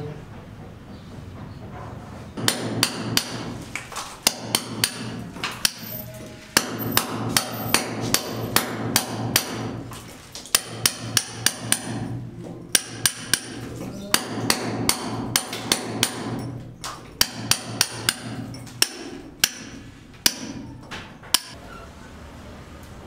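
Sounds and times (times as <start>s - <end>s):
hammer striking chisel: 2.4s - 21.6s.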